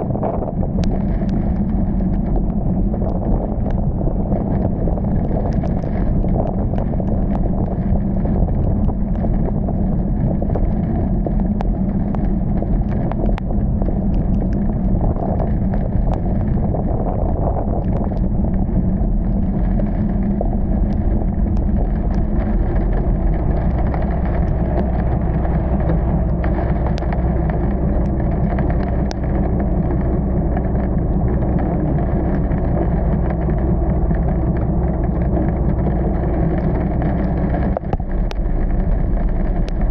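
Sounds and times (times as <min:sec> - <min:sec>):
car engine and tyres on wet road: 0:00.0 - 0:39.9
faint ticks: 0:00.8 - 0:03.8, 0:04.5 - 0:17.0, 0:19.2 - 0:39.9.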